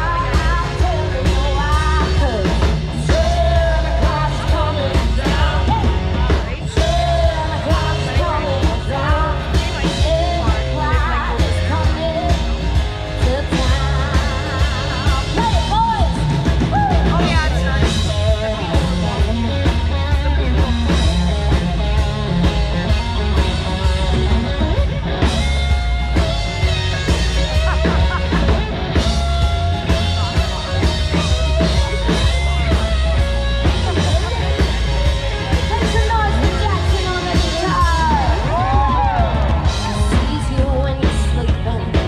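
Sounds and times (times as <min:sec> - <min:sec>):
live rock band playing: 0:00.0 - 0:42.0.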